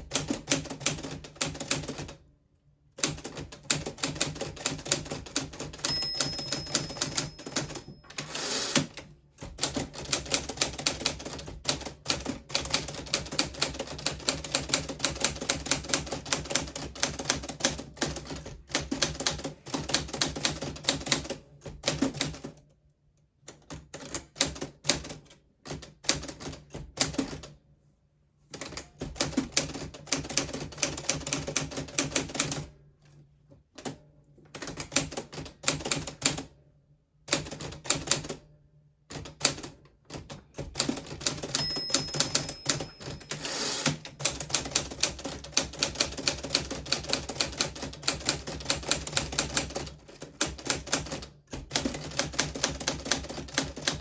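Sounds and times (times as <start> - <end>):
manual typewriter typing: 0.0 - 2.2, 3.0 - 22.6, 28.5 - 32.7, 33.8 - 36.5, 37.3 - 38.4, 39.1 - 54.0.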